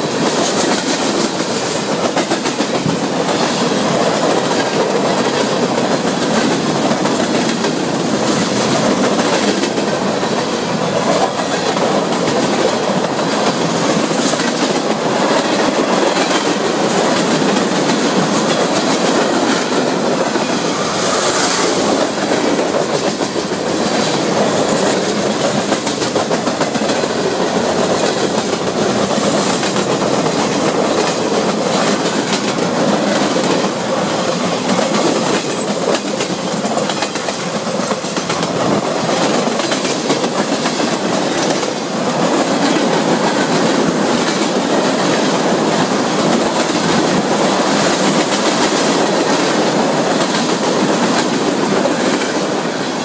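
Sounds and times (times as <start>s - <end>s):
freight train wheels clattering: 0.0s - 53.0s.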